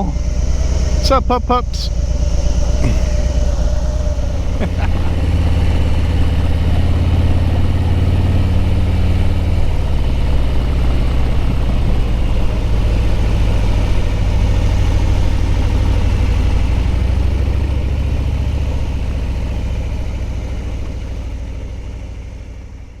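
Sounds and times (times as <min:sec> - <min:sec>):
road and wind noise: 0:00.0 - 0:22.9
motorcycle engine running: 0:01.8 - 0:23.0.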